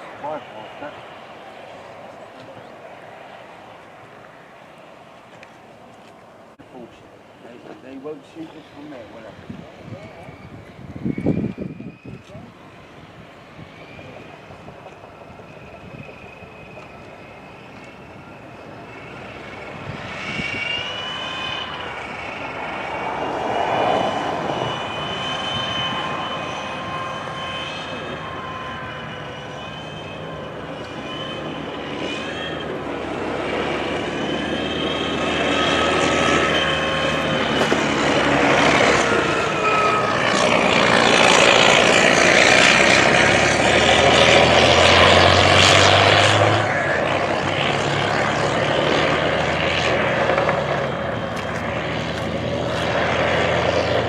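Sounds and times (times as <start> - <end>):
aircraft engine whine: 0.0 - 54.0.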